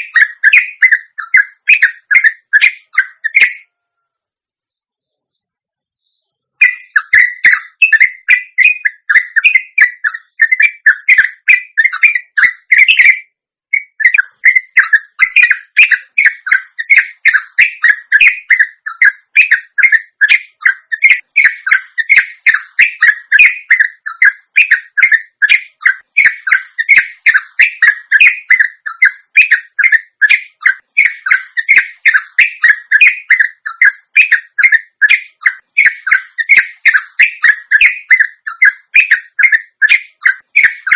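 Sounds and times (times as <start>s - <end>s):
bird chattering song: 0.0s - 40.9s.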